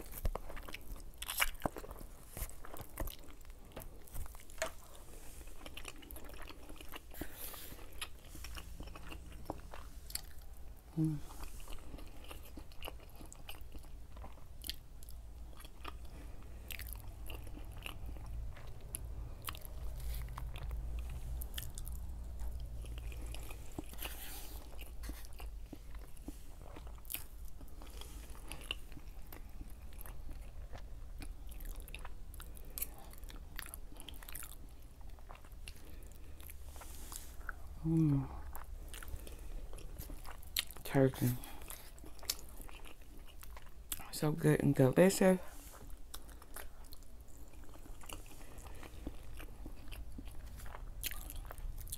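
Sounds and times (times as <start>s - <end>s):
person chewing soft food: 0.0s - 44.2s, 45.4s - 51.9s
low steady hum: 0.0s - 51.9s.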